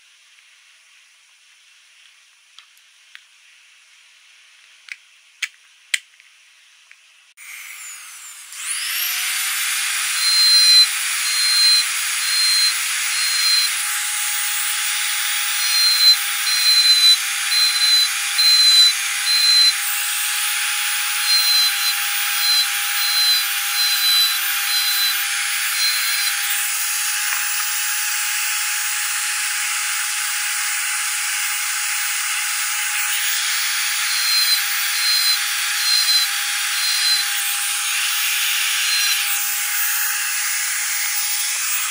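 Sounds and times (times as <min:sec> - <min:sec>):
electric drill whining: 0:07.4 - 0:41.9
rotary tool carving wood: 0:07.4 - 0:41.9.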